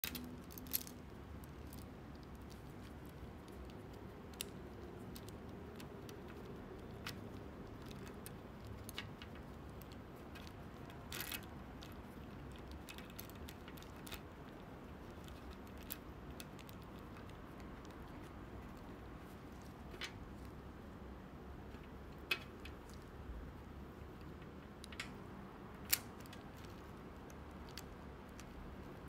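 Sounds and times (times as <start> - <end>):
faint room hiss: 0.0 - 29.0.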